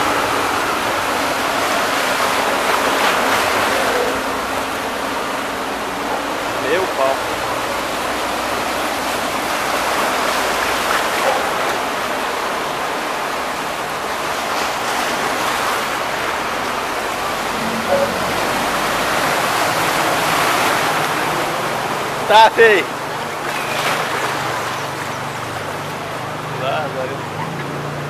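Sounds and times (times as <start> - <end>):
floodwater rushing: 0.0 - 28.0
vehicles splashing through water: 0.0 - 28.0.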